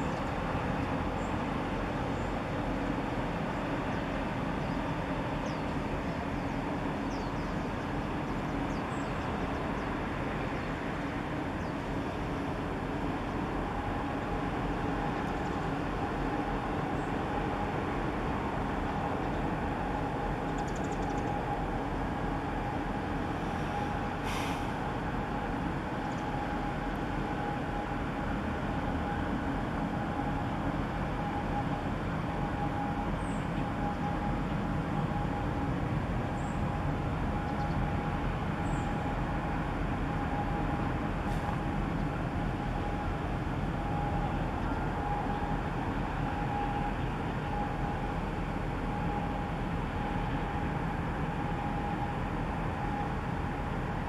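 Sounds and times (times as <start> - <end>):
ship engines rumbling: 0.0 - 54.0.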